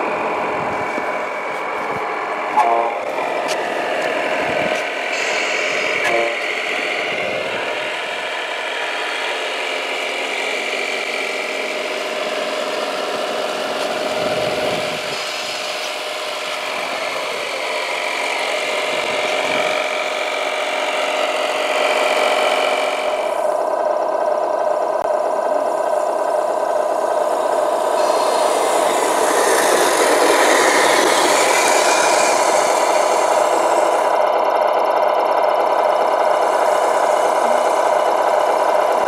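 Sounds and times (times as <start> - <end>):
electric motors whining: 0.0 - 39.0.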